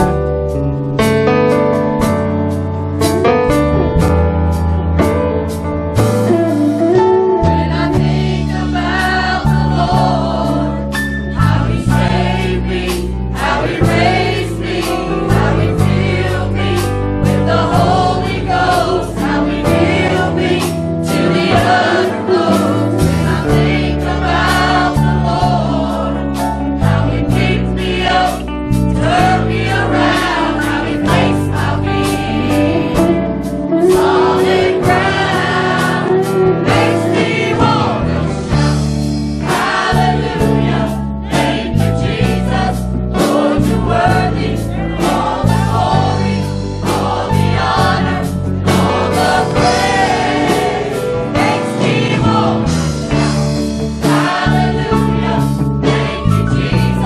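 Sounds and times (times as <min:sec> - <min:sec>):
choir singing with band: 0:05.5 - 0:57.0.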